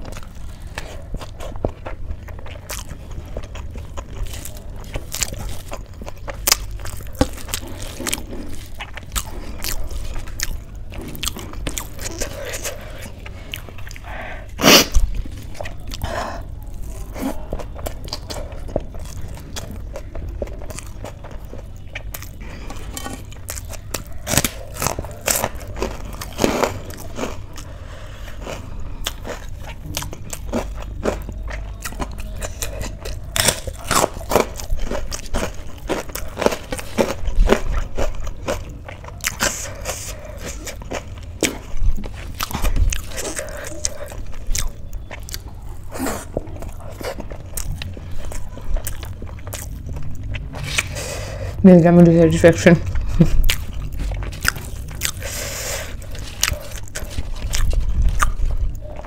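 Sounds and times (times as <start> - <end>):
chewing and crunchy bites: 0.0 - 59.0.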